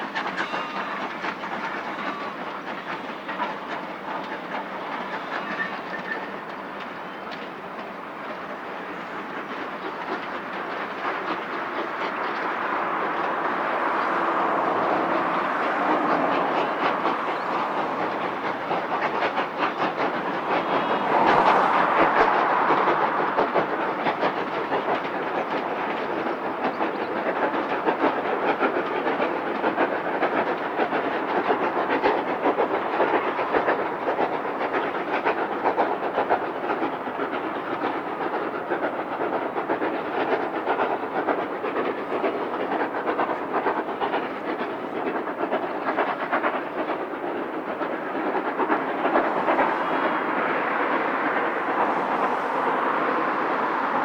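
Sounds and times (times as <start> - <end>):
steam train passing: 0.0 - 54.0
wheels clicking over rail joints: 0.1 - 54.0.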